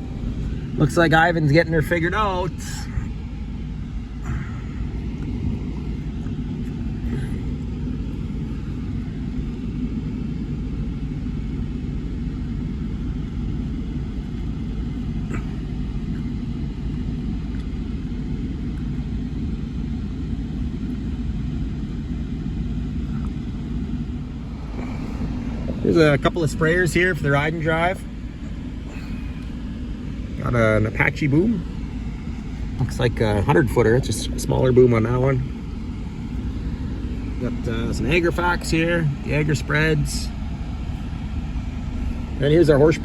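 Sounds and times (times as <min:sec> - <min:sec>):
vehicle engine rumbling: 0:00.0 - 0:43.0.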